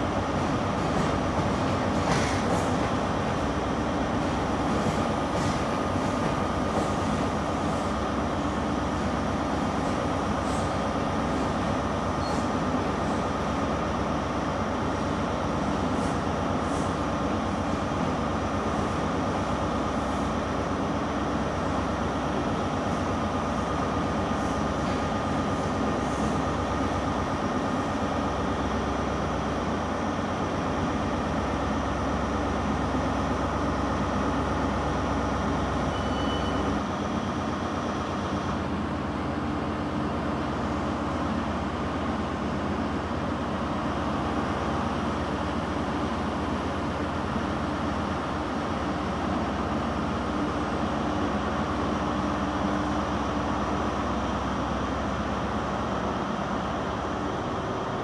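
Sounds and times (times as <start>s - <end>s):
diesel train engines running: 0.0s - 58.0s.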